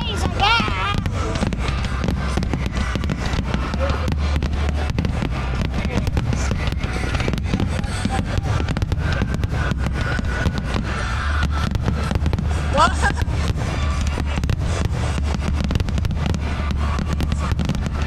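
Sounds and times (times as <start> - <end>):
fireworks popping and banging: 0.0 - 18.0.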